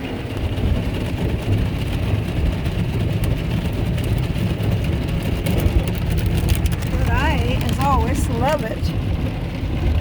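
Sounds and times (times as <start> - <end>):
car wash rumble and hiss: 0.0 - 10.0.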